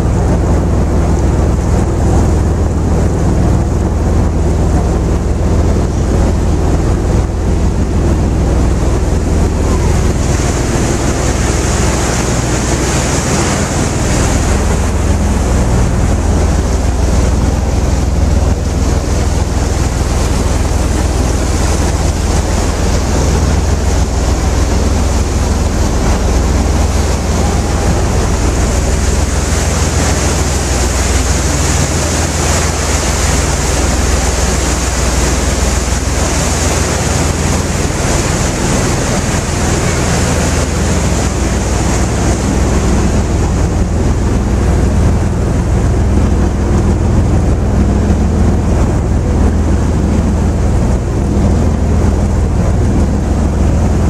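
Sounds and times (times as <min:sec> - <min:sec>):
boat engine running: 0:00.0 - 0:54.0
water rushing past hull: 0:00.0 - 0:54.0
wind buffeting microphone: 0:00.0 - 0:54.0.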